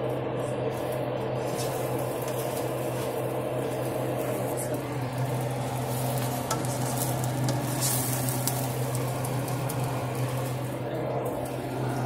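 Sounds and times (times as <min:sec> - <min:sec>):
eggs sizzling in a frying pan: 0:00.0 - 0:12.0.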